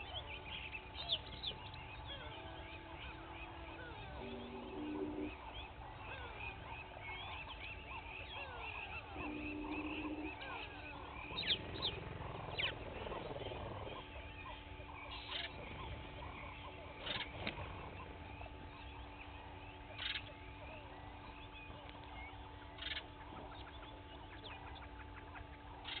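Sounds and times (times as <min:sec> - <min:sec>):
wild birds chorus: 0:00.0 - 0:26.0.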